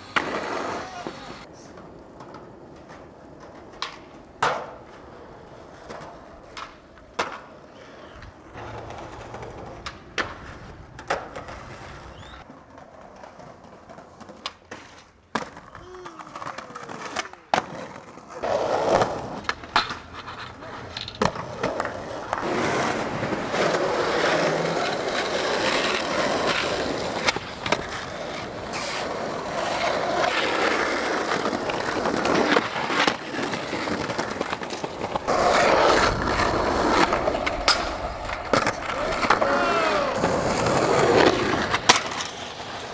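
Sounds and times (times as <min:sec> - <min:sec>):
skateboard clacks: 0:00.0 - 0:42.9
skateboard wheels rolling on pavement: 0:00.0 - 0:42.9.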